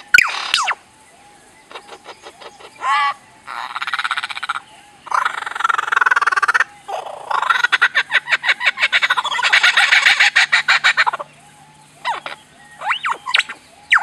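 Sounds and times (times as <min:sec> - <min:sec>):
lyrebird singing: 0:00.0 - 0:14.0.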